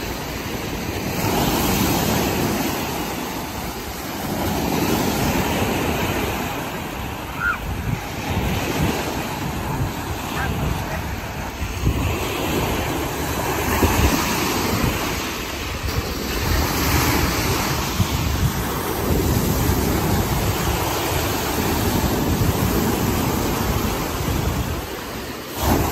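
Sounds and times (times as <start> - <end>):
waves washing on pebble shore: 0.0 - 25.9
wind rumble on microphone: 0.0 - 25.9.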